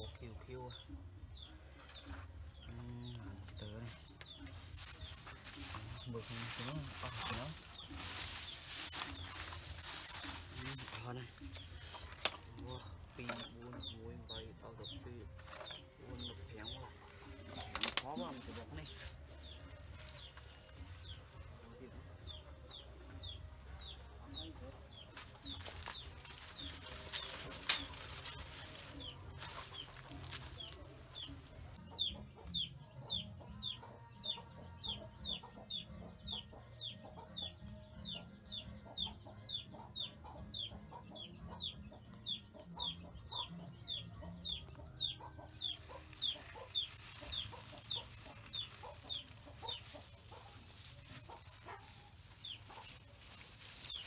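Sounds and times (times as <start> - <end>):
chick peeping: 0.0 - 19.6, 21.8 - 54.0.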